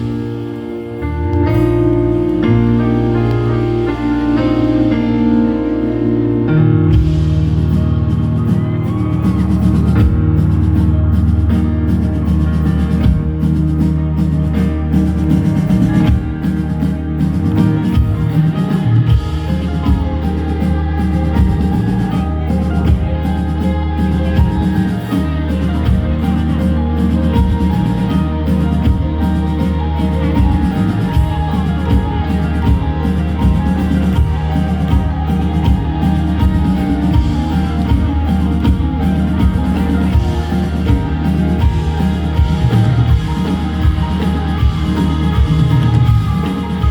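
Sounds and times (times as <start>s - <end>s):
keyboard chords: 0.0s - 46.9s
rock band playing live: 0.0s - 46.9s.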